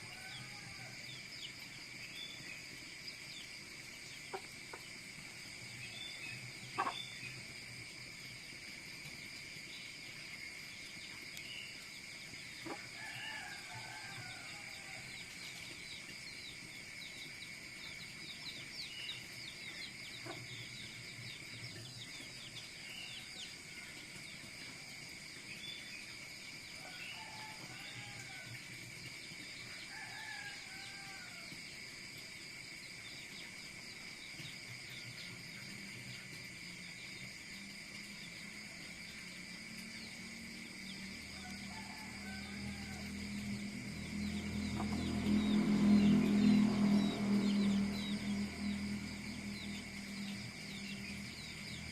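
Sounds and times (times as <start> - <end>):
crickets chirping: 0.0 - 51.9.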